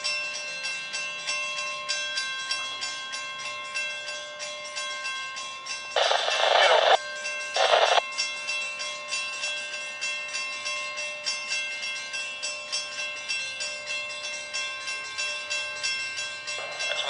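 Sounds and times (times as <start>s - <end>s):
railroad bell ringing: 0.0s - 17.0s.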